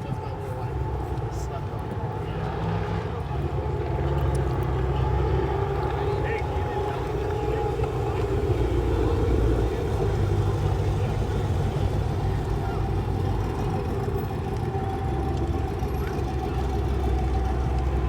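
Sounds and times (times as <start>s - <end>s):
faint voices: 0.0s - 18.0s
car engine idling: 3.2s - 18.0s.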